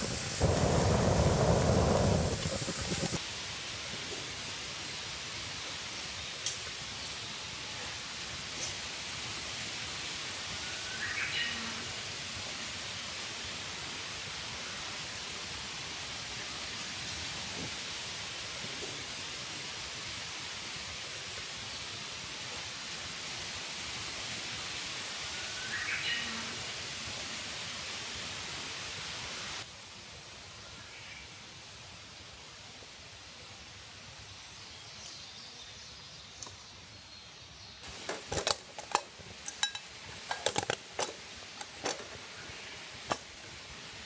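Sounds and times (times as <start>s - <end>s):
outdoor hiss: 0.0s - 44.0s.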